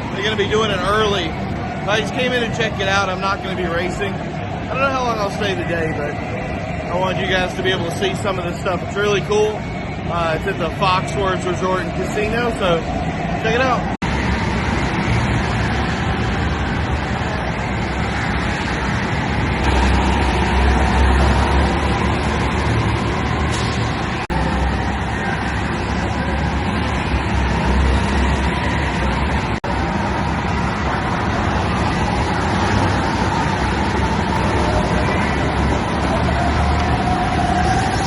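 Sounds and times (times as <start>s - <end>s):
race car engines droning: 0.0s - 38.0s.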